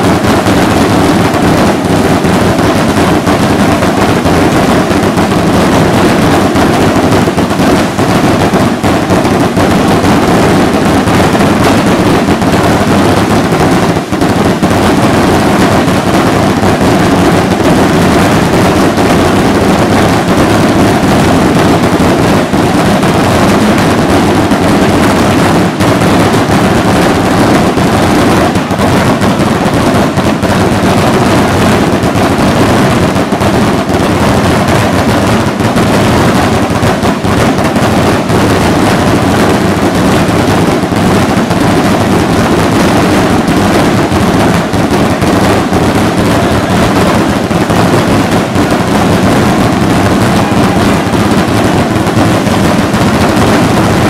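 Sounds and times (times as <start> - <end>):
firework rockets crackling and banging: 0.0 - 54.0.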